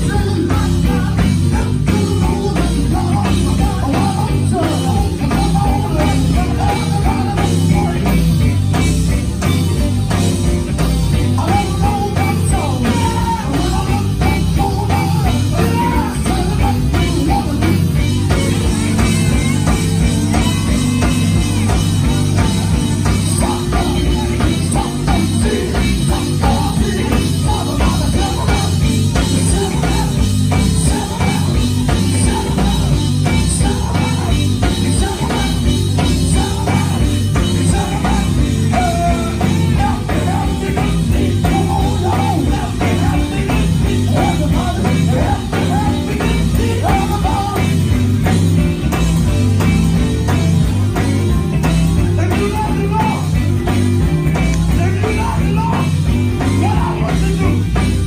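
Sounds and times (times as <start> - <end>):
lead singer singing: 0.0 - 9.0, 11.1 - 48.4, 52.0 - 53.5, 54.4 - 58.0
live gospel band playing: 0.0 - 58.0.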